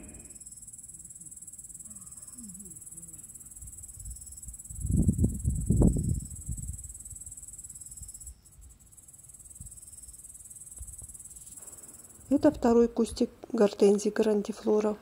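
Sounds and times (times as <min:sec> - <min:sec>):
crickets chirring: 0:00.0 - 0:12.6.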